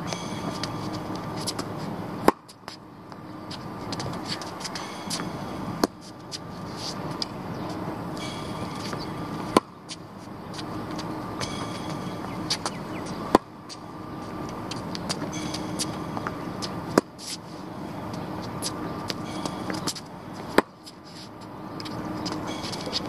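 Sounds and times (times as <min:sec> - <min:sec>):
tennis racket hitting ball: 0:00.0 - 0:02.8, 0:03.5 - 0:17.4, 0:18.0 - 0:23.0
steady background hum: 0:00.0 - 0:23.0.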